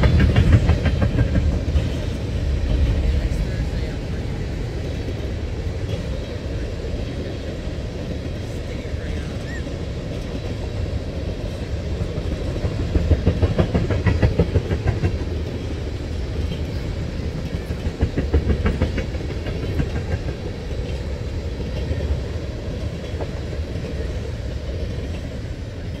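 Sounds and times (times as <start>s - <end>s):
train wheels rumbling: 0.0s - 26.0s
wheels clickety-clack: 0.0s - 26.0s.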